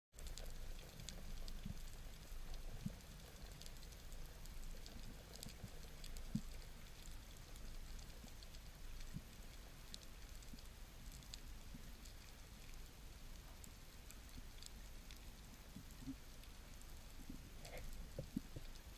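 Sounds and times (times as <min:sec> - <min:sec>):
underwater clicks and crackles: 0:00.2 - 0:18.9.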